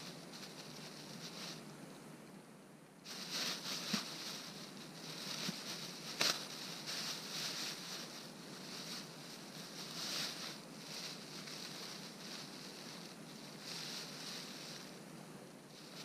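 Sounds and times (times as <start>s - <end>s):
snow crunching underfoot: 0.0s - 1.6s, 3.1s - 15.0s, 15.7s - 16.0s.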